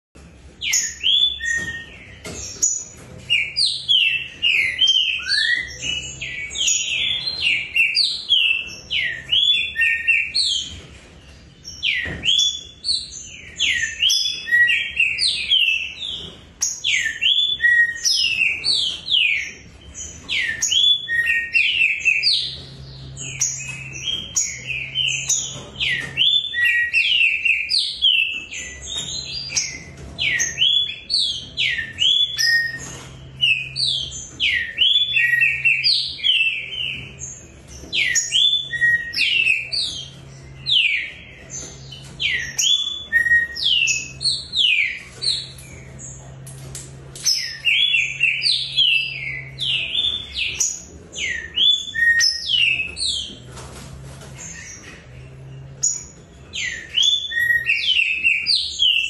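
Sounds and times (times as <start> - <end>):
caged birds singing: 0.2 - 59.0.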